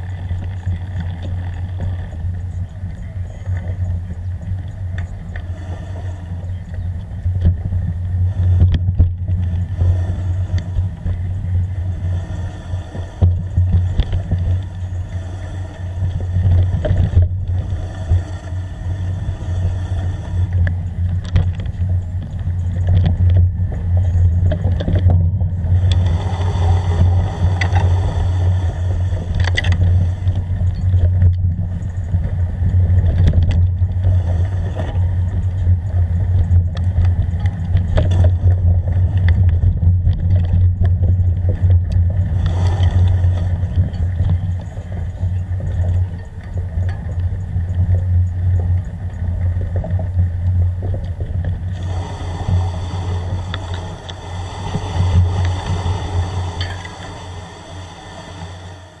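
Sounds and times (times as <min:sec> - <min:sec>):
vehicle rumble on dirt track: 0:00.0 - 0:59.0.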